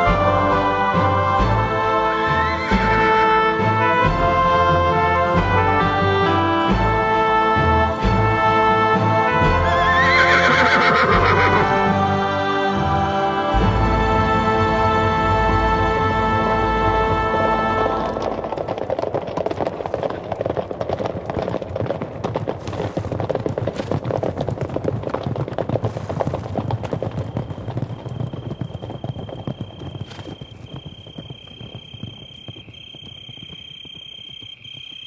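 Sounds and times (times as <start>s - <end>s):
horses' hooves galloping: 0.0s - 35.0s.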